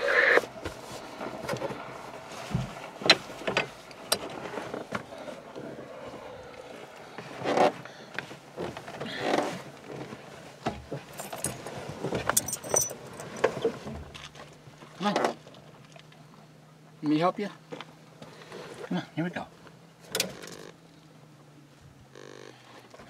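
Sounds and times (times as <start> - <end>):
faint steady hum: 0.0 - 23.0
people moving inside a car: 0.0 - 23.0.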